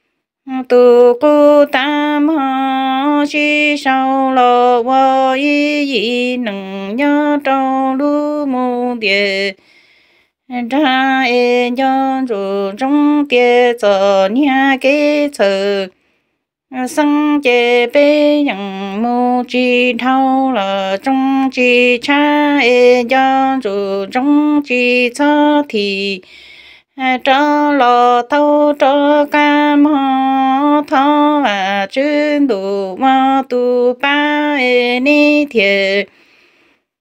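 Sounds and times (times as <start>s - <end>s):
woman singing unaccompanied: 0.4s - 9.6s, 10.4s - 16.0s, 16.7s - 26.3s, 26.9s - 36.2s.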